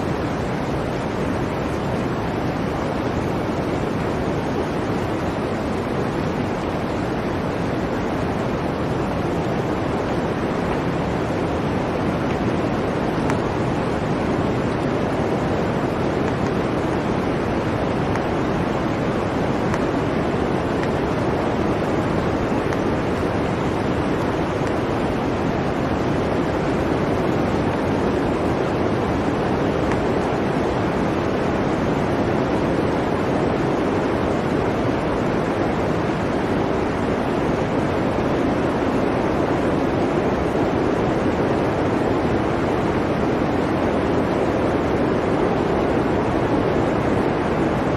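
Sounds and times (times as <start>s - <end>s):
blizzard wind rushing: 0.0s - 47.9s.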